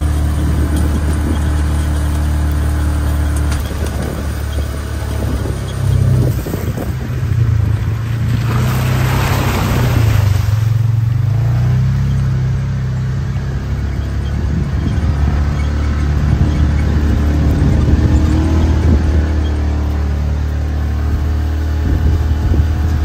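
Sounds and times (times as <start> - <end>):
atv engine running: 0.0 - 23.0
tyres splashing through water: 0.0 - 23.0.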